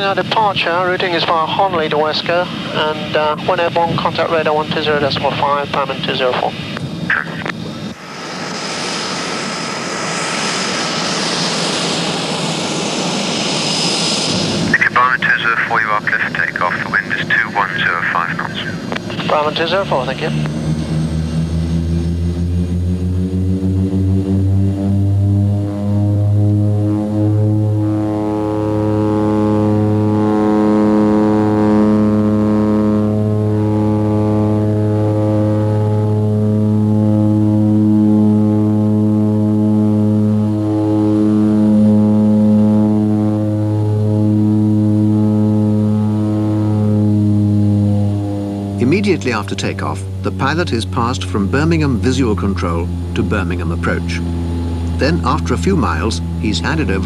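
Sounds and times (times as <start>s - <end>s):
turboprop engines rushing and whining: 0.0s - 57.0s.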